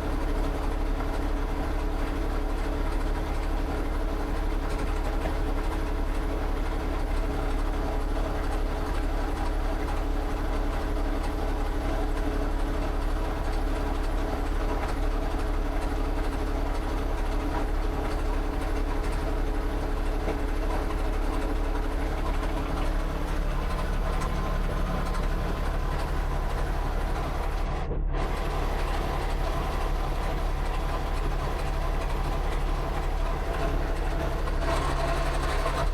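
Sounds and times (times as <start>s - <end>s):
engine running: 0.0s - 35.9s.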